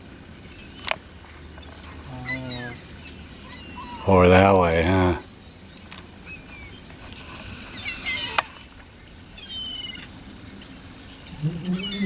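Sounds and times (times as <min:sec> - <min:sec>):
seagulls calling: 0:00.0 - 0:12.0.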